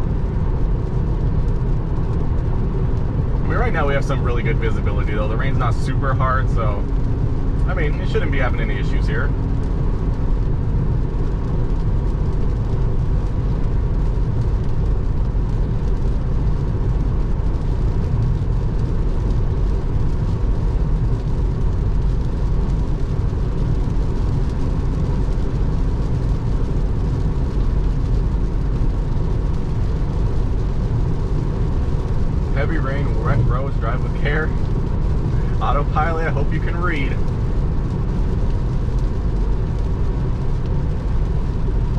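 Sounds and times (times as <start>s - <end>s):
car tyre noise on wet road: 0.0s - 41.9s.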